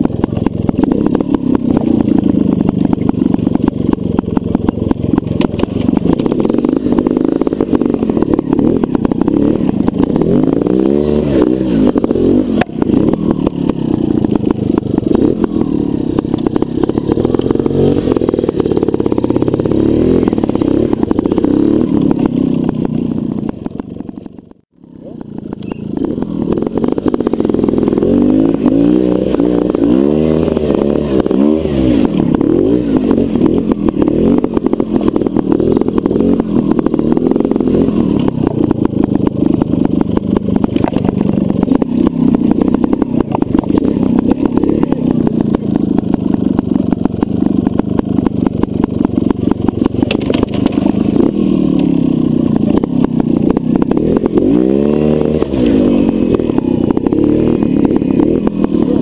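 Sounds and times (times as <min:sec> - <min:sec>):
motorcycle engine throttle blips: 0:00.0 - 0:59.0.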